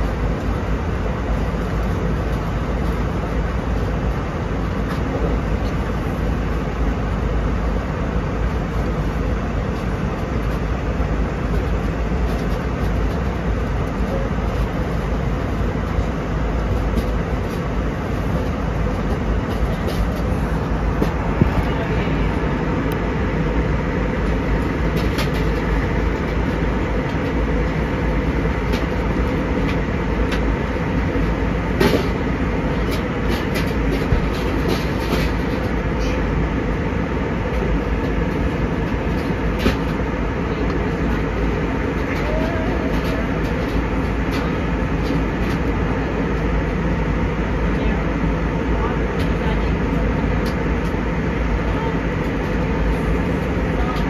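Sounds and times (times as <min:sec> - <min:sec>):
air rushing along fuselage: 0:00.0 - 0:54.0
jet engines droning: 0:00.0 - 0:54.0.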